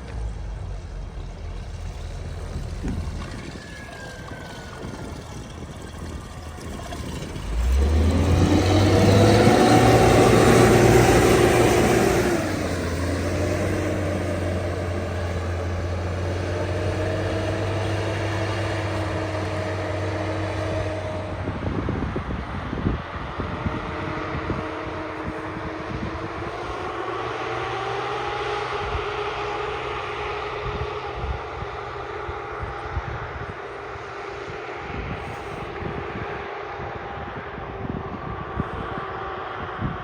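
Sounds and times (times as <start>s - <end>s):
heavy diesel engine droning: 0.0s - 40.0s.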